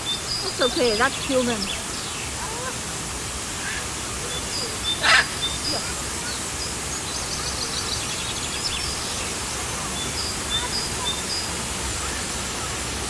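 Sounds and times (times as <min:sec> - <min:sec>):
faint rapid bird twitter: 0:00.0 - 0:02.8, 0:03.6 - 0:13.0
small birds chirping: 0:00.0 - 0:02.8, 0:03.4 - 0:13.0.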